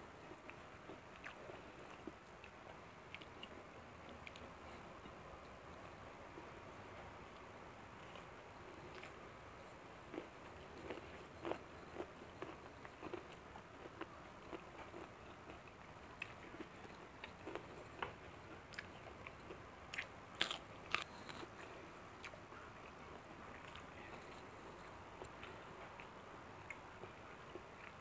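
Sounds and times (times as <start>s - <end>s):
person chewing food: 0.3s - 6.4s, 7.4s - 9.2s, 10.1s - 28.0s.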